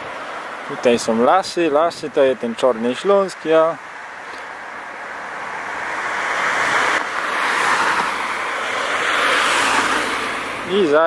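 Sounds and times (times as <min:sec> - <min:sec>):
rushing wind and road noise: 0:00.0 - 0:11.0.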